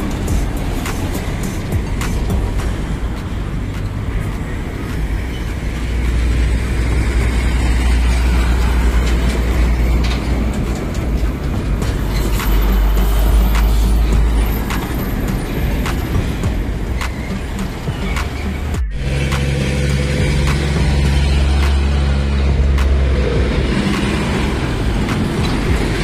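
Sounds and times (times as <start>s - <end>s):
trucks passing close by: 0.0s - 26.0s.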